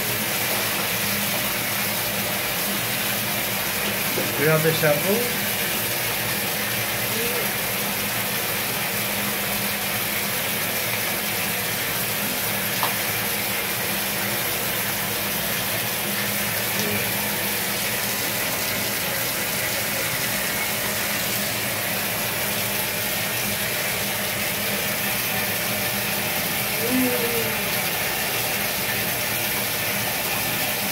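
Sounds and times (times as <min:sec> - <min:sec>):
water splashing into bathtub: 0:00.0 - 0:30.9.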